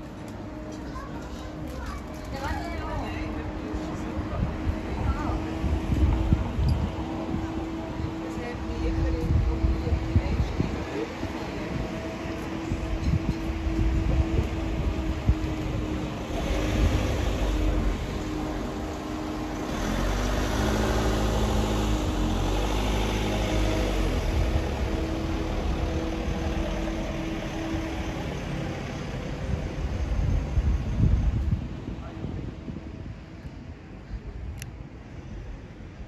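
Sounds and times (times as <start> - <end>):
vehicle engine passing: 2.7 - 31.6.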